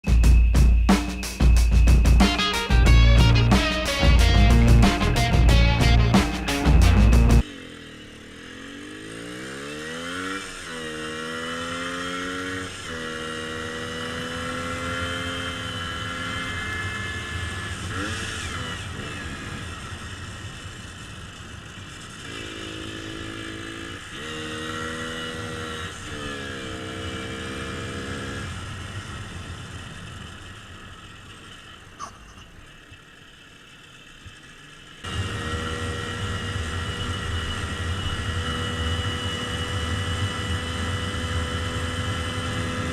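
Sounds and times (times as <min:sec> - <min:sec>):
motorcycle engine accelerating: 0:00.0 - 0:42.9
steady engine drone: 0:00.0 - 0:42.9.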